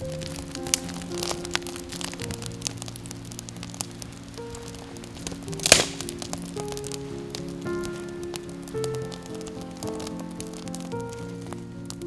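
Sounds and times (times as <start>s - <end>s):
slow background music: 0.0s - 12.0s.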